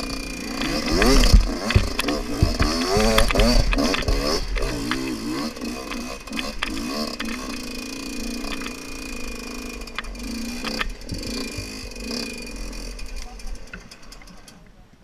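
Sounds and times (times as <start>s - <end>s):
bike jolting over ruts: 0.0s - 14.1s
dirt bike engine revving: 0.0s - 14.2s.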